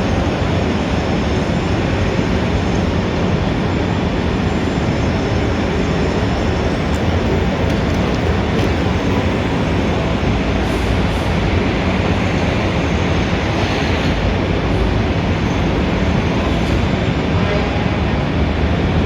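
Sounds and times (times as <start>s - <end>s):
city street traffic rumble: 0.0s - 19.0s.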